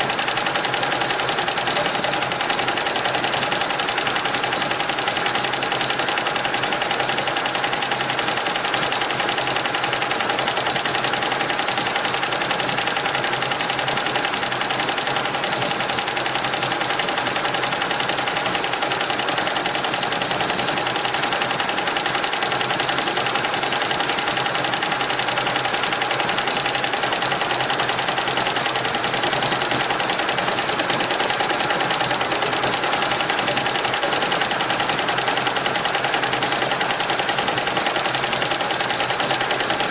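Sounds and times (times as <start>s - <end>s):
embroidery machine rattling: 0.0s - 39.9s
steady machine tone: 0.0s - 39.9s.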